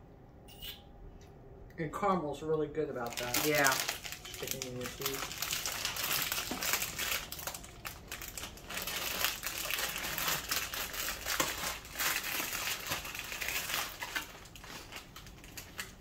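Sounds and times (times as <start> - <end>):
plastic bag crinkling: 2.9 - 16.0.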